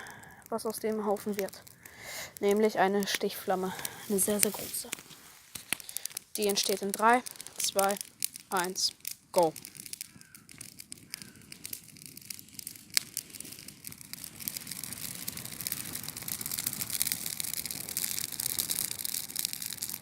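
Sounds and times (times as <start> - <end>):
bonfire crackling: 0.0 - 20.0
sharp crack of burning branch: 0.0 - 20.0.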